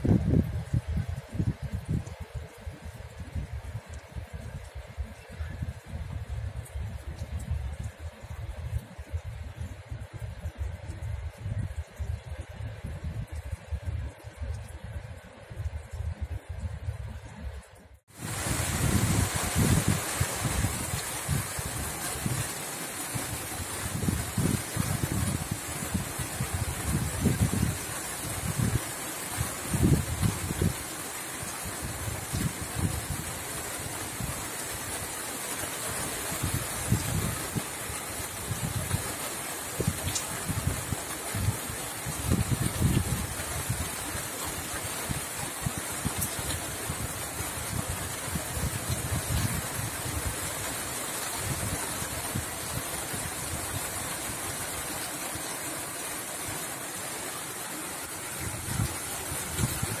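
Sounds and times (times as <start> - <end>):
wind buffeting microphone: 0.0 - 34.9, 36.2 - 55.0, 58.0 - 60.0
rain falling: 0.0 - 60.0.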